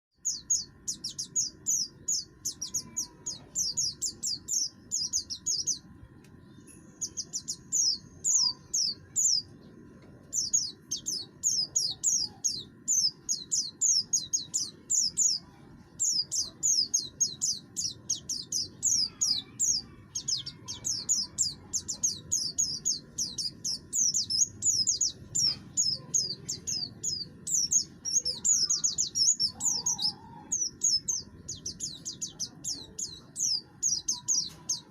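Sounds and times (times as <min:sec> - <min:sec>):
bird singing rapid rough song: 0:00.1 - 0:34.9.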